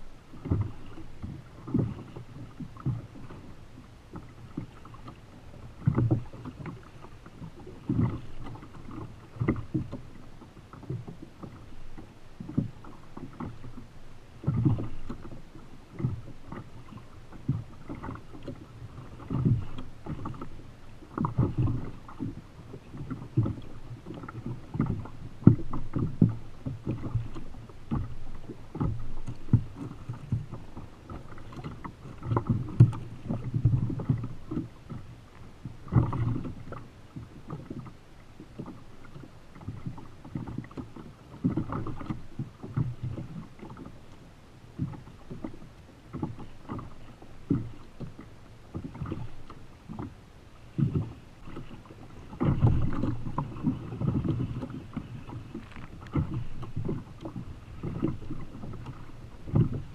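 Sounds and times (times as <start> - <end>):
steady wash of water: 0.0 - 59.9
waves slapping against kayak hull: 0.0 - 59.9.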